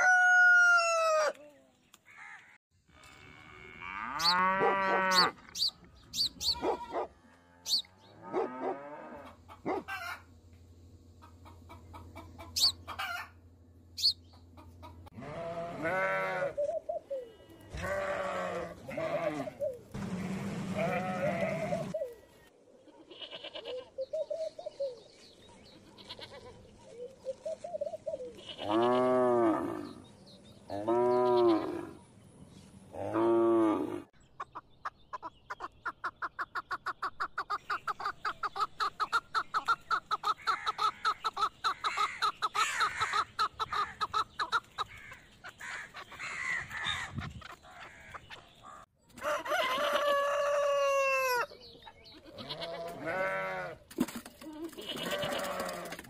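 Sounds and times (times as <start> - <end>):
farmyard animals calling: 2.1 - 25.0, 25.6 - 32.2, 32.9 - 56.0.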